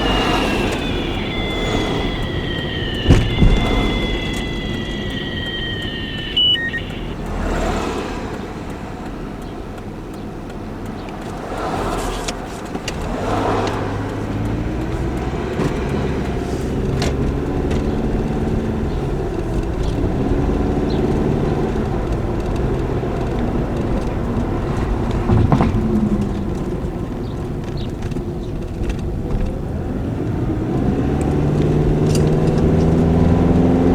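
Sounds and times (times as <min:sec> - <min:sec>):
car engine running: 0:00.0 - 0:30.2
road noise: 0:00.0 - 0:33.9.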